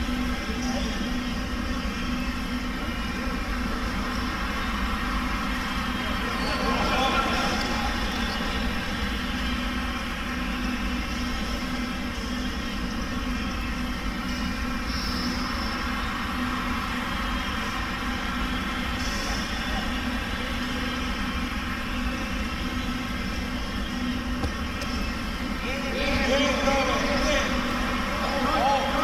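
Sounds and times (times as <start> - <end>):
mechanical drone with low hum: 0.0 - 29.0.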